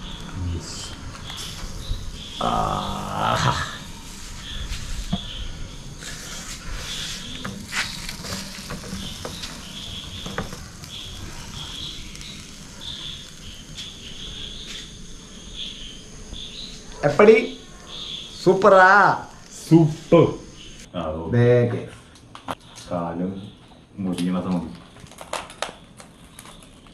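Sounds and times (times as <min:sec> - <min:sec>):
crickets chirping: 0:00.0 - 0:21.8.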